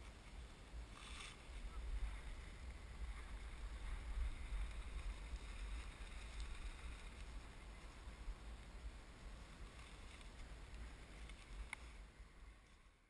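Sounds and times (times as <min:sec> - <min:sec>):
wind on microphone: 0:00.0 - 0:12.6
faint hiss: 0:00.0 - 0:13.0.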